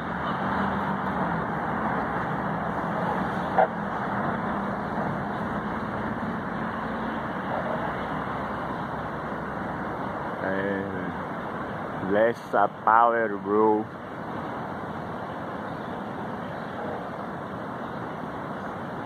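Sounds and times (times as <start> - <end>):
rough sea surf: 0.0 - 19.0
wind: 0.0 - 19.0.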